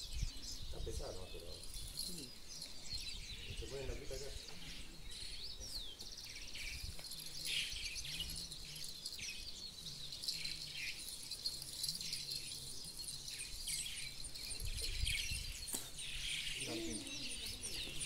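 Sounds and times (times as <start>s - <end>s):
bird trill: 0.0s - 18.0s
birds chirping: 0.0s - 18.0s.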